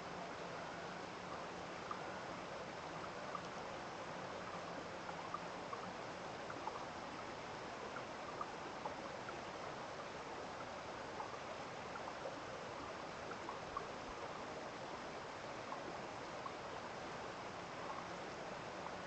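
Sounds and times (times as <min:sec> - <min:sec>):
small stream running: 0:00.0 - 0:19.0
water plinks and gurgles: 0:00.3 - 0:19.0.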